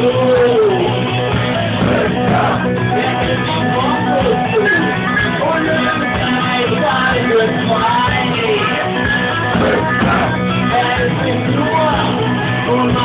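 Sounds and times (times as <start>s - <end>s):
guitar-led rock music: 0.0s - 13.0s.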